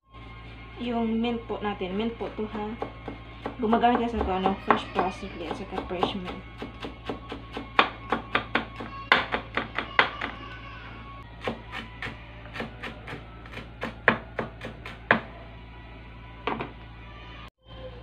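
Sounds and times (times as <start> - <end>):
background music: 0.1 - 16.9.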